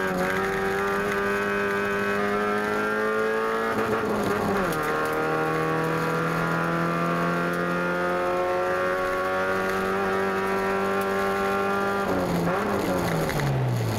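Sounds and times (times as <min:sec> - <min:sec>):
race car engine revving: 0:00.0 - 0:13.9.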